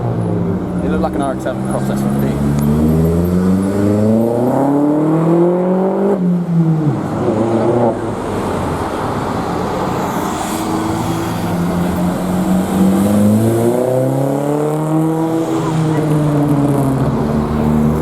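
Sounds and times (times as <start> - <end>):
car engine accelerating hard: 0.8 - 18.0.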